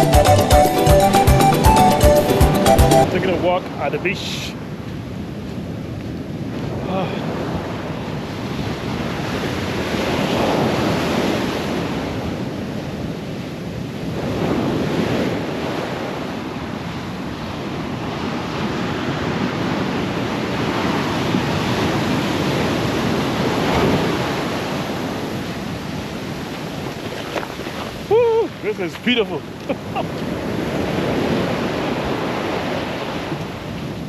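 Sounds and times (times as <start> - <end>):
ocean surf breaking on beach: 0.0 - 34.0
wind buffeting microphone: 3.0 - 34.0.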